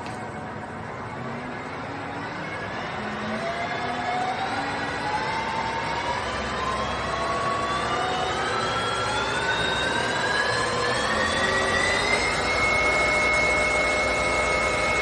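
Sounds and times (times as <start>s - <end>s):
metal lathe whine rising in pitch: 0.0s - 15.0s.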